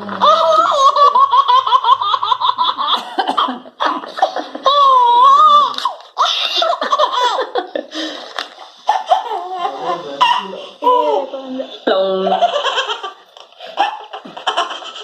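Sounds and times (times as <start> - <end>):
baby laughing: 0.0 - 8.0, 8.8 - 15.0.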